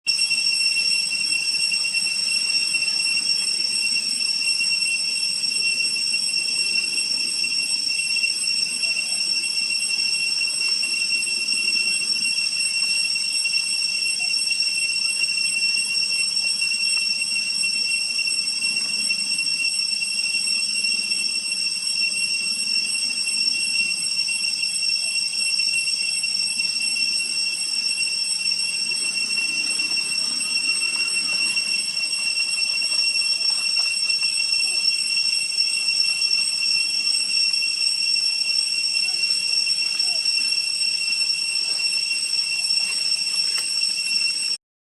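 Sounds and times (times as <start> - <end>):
high-pitched whistling tone: 0.0 - 44.6.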